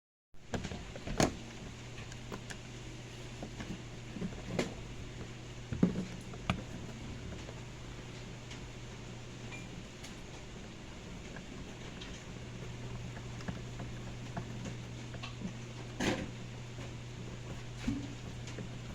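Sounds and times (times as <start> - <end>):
washing machine humming: 0.4 - 18.9.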